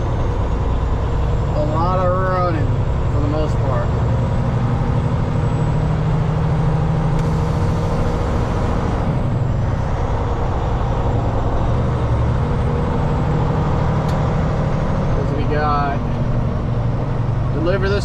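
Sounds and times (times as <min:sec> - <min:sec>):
road noise: 0:00.0 - 0:18.0
truck diesel engine droning: 0:00.0 - 0:18.0.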